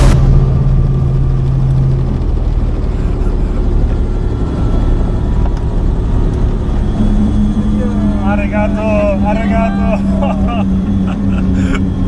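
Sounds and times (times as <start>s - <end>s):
low hum: 0.0s - 12.0s
vehicle engine running: 0.0s - 12.0s.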